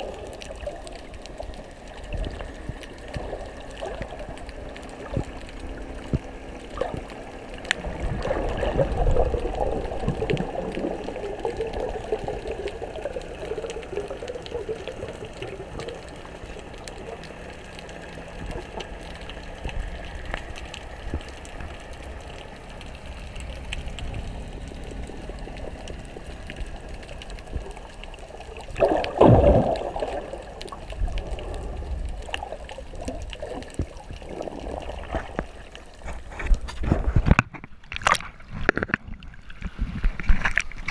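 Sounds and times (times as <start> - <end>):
muffled underwater rushing and gurgling: 0.0 - 40.9.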